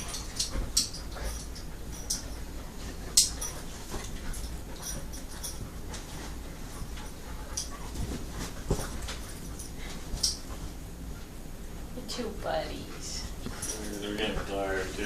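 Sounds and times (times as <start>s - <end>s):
dogs scuffling and rustling: 0.0s - 12.0s, 12.9s - 15.0s.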